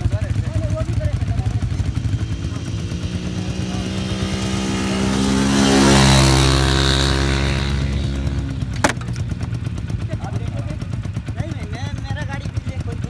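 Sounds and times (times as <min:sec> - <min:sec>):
quad bike engine passing: 0:00.0 - 0:13.0.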